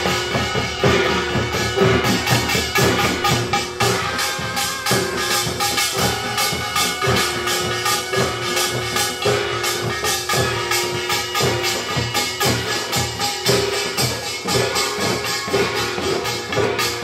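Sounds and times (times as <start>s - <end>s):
drums and gongs rhythm: 0.0s - 17.0s
piercing shawm melody: 0.0s - 17.0s.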